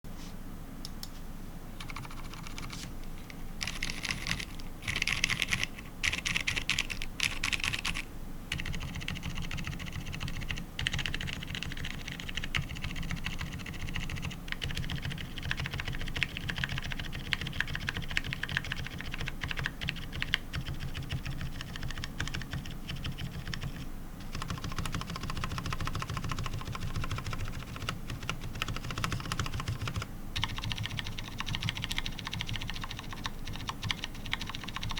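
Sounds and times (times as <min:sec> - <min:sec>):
typing on mechanical keyboard: 0:01.8 - 0:02.8, 0:03.6 - 0:34.9.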